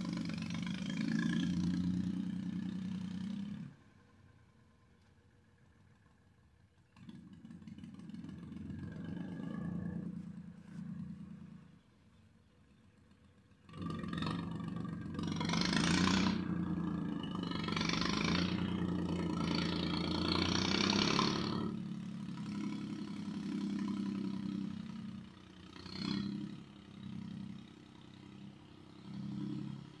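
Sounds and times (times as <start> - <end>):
tractor engine running: 5.0 - 30.0.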